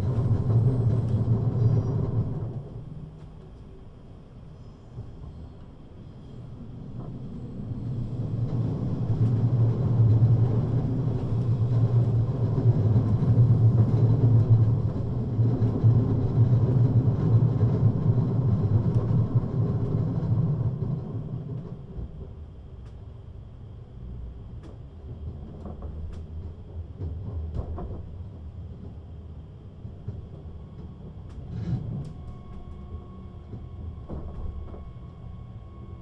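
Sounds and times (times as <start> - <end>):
electric train low rumble: 0.0 - 36.0.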